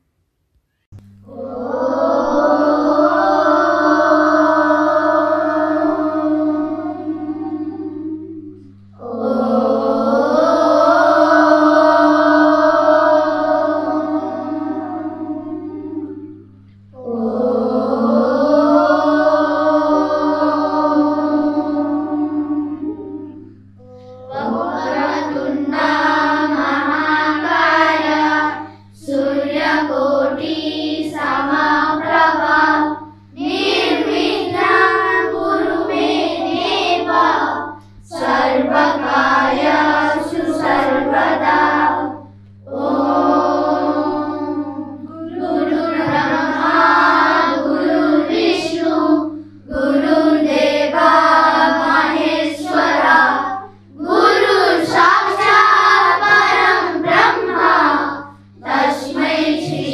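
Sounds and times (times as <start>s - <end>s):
steady low hum: 0.0s - 59.9s
children singing devotional song: 1.2s - 59.9s.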